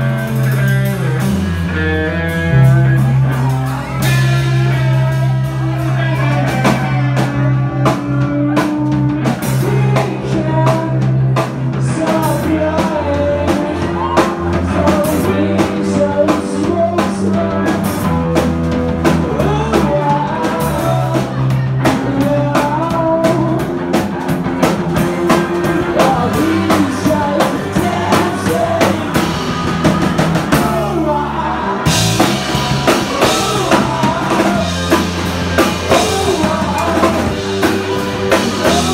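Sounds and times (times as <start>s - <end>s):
live rock band playing: 0.0s - 38.9s
person singing: 2.5s - 18.4s, 19.0s - 38.9s.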